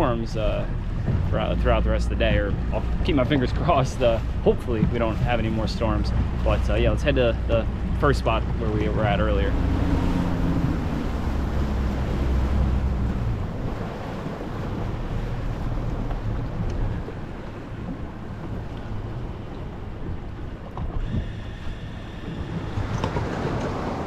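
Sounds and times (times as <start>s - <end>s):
boat engine drone: 0.0s - 24.0s
water rushing: 0.0s - 24.0s
wind noise on microphone: 0.0s - 24.0s.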